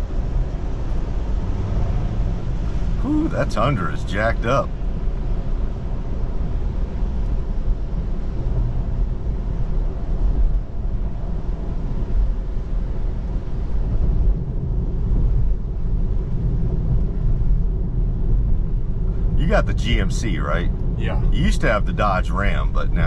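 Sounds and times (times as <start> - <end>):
road and tyre noise on wet road: 0.0 - 23.0.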